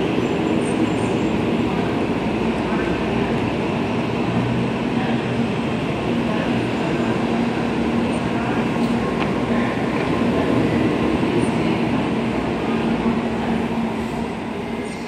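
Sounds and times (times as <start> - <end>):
train motor hum and rolling noise: 0.0 - 15.0.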